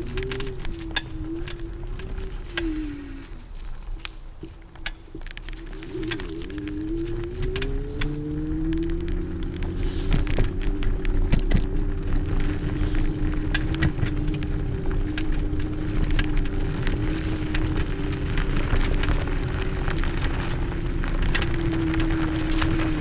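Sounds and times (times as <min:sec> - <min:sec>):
scooter rolling over gravel: 0:00.0 - 0:23.0
tyres crackling on loose stones: 0:00.0 - 0:23.0.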